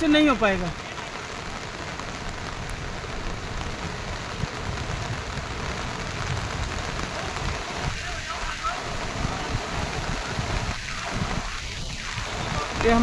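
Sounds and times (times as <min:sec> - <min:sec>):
rain falling on water: 0:00.0 - 0:13.0.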